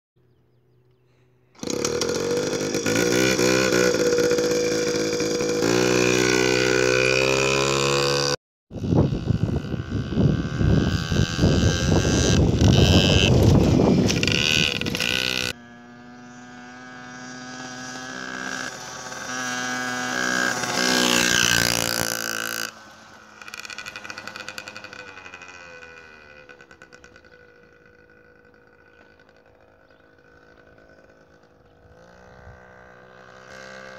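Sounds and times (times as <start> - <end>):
two-stroke minibike engine revving: 1.1 - 33.9.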